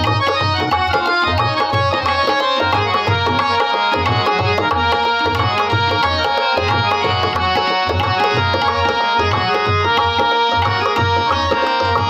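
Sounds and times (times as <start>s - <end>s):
keyboard melody: 0.0s - 12.0s
tabla drumming: 0.0s - 12.0s.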